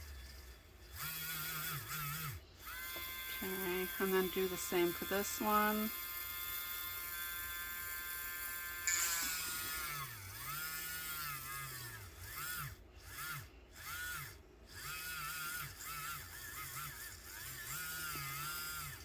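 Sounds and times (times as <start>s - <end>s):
electric nail drill whining: 0.0s - 19.0s.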